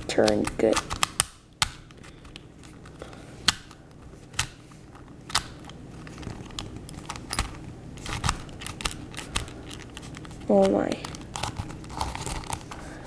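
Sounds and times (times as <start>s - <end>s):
puzzle cube clicking as turned: 0.0s - 12.8s.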